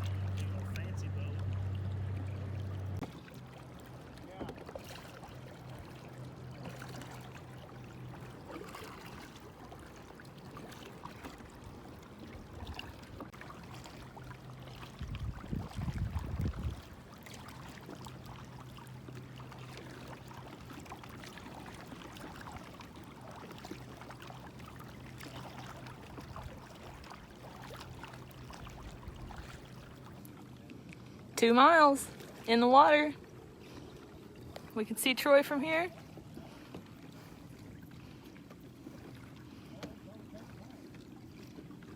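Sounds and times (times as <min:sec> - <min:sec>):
water splashing and trickling: 0:00.0 - 0:41.9.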